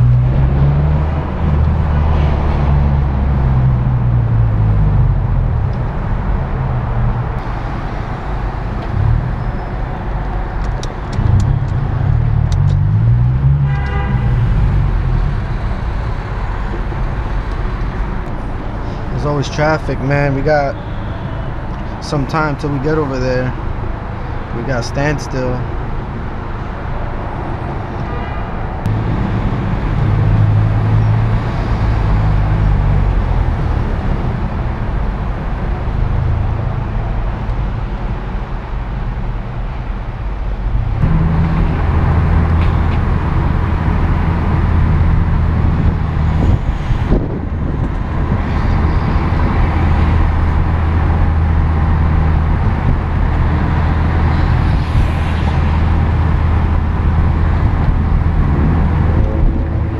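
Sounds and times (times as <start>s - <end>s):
car engine drone: 0.0s - 59.9s
road noise: 0.0s - 59.9s.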